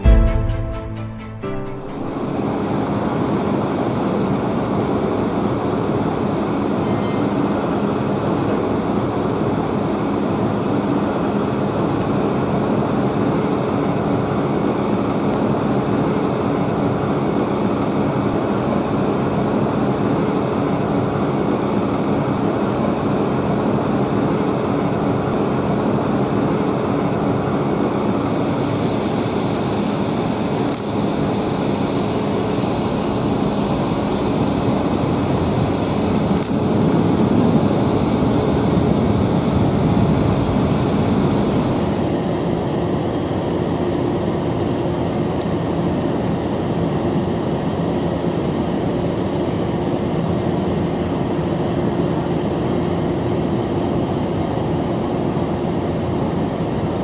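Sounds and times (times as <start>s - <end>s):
jet engines roaring: 1.9s - 52.3s.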